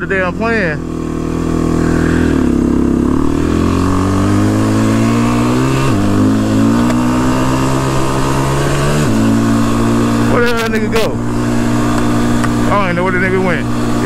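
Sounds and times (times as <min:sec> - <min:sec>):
quad engine accelerating: 0:00.0 - 0:14.0.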